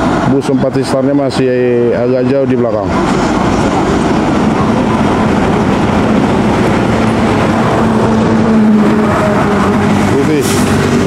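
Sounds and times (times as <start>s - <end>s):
diesel engine and tyre noise: 0.0s - 11.0s
heavy highway traffic: 0.0s - 11.0s.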